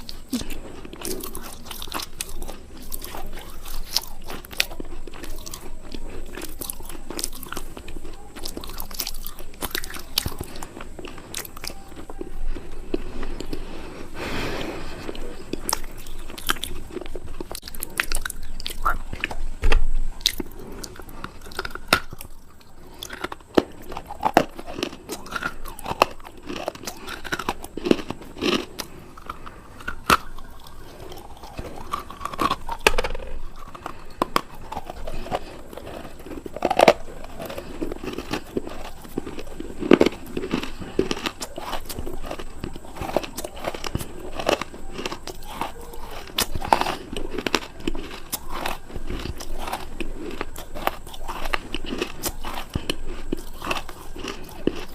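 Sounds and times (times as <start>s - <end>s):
crunchy food chewing: 0.0s - 54.9s.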